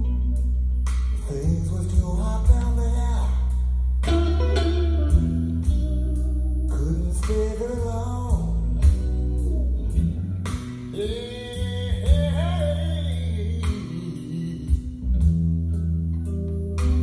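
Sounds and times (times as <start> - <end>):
guitar: 0.0 - 17.0
heavy bass line: 0.0 - 17.0
person singing: 1.1 - 15.1, 16.4 - 17.0.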